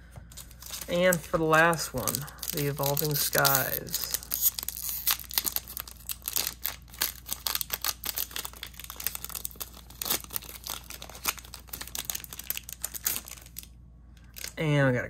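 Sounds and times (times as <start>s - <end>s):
foil wrapper crinkling and tearing: 0.2s - 14.6s.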